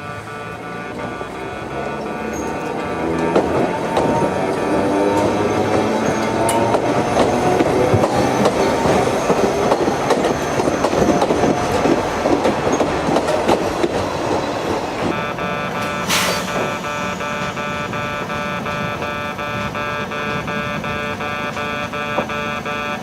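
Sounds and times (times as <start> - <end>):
electric train running: 0.0 - 23.0
train wheels clicking over rail joints: 1.0 - 21.2.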